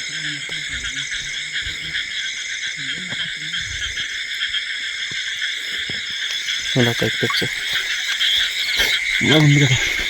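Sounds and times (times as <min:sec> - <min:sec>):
frogs and insects calling: 0:00.0 - 0:10.0.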